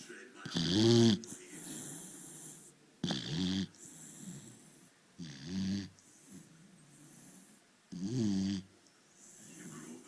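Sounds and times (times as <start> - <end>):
dog snoring: 0.4 - 10.0.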